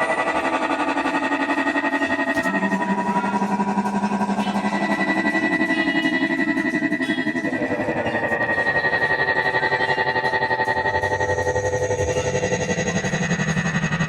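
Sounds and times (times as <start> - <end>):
pulsing background music: 0.0 - 14.0.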